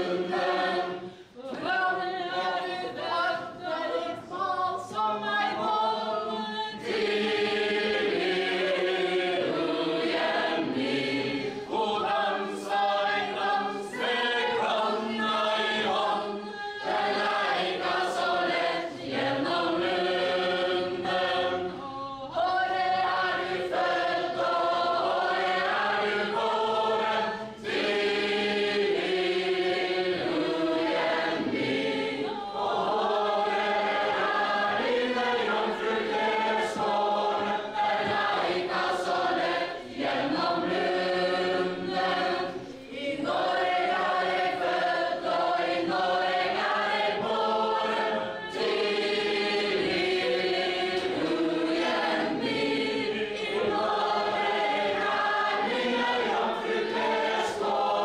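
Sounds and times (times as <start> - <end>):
group singing unaccompanied: 0.0 - 58.0.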